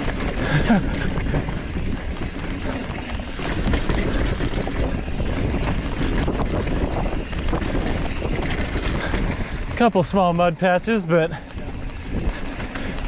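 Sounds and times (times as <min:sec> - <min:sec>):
bike rattling and clicking: 0:00.0 - 0:13.0
tyres crunching over dirt: 0:00.0 - 0:13.0
wind rumbling on microphone: 0:00.0 - 0:13.0.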